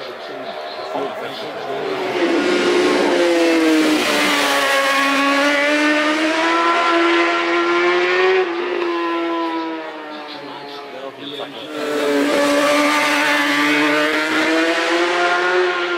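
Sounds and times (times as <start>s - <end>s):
racing motorcycle engine revving: 0.0s - 15.9s.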